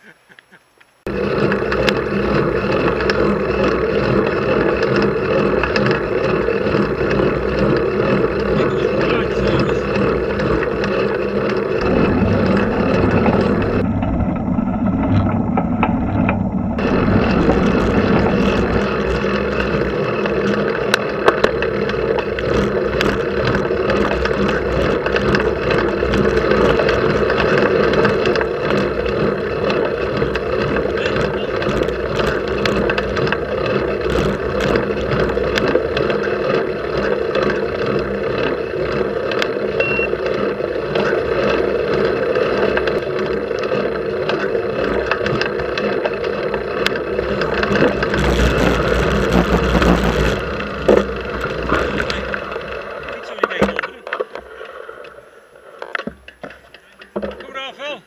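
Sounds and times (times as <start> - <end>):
small rattles and clicks: 0.8 - 13.8, 15.2 - 55.2
steady rushing noise: 1.0 - 37.0, 44.8 - 55.8.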